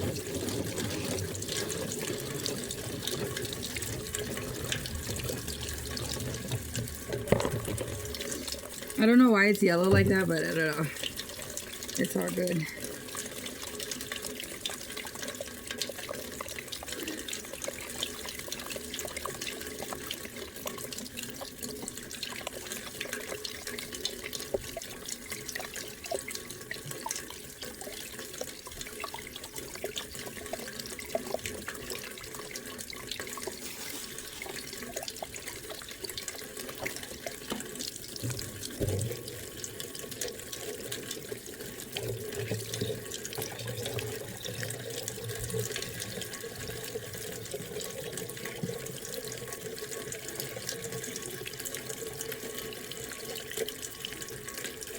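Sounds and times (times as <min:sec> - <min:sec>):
rainwater splashing into container: 0:00.0 - 0:54.9.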